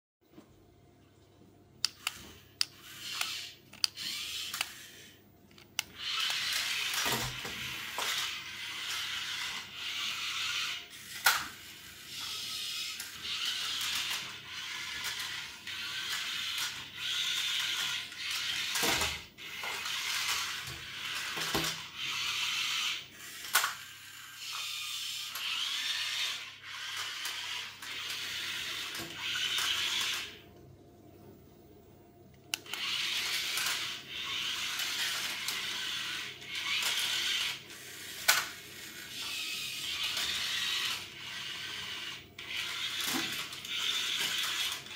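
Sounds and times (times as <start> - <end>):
toy motors whirring: 1.8 - 30.4, 32.5 - 44.9.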